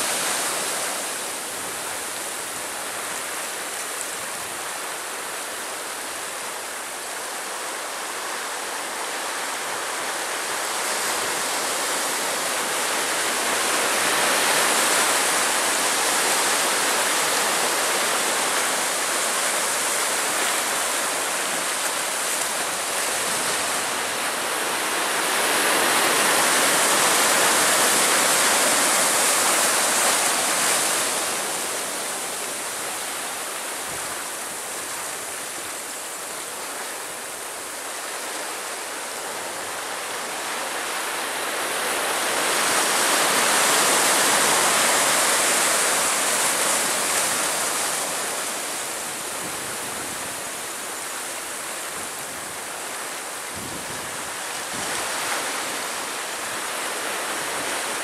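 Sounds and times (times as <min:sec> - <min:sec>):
surf on rocky shore: 0:00.0 - 0:58.0.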